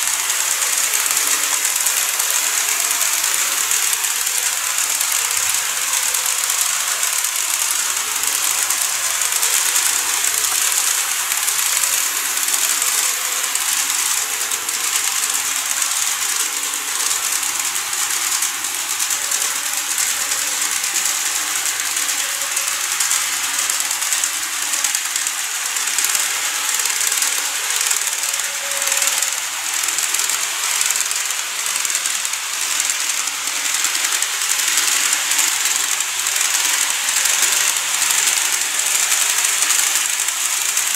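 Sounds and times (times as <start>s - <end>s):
model train rattling whir: 0.0s - 40.9s.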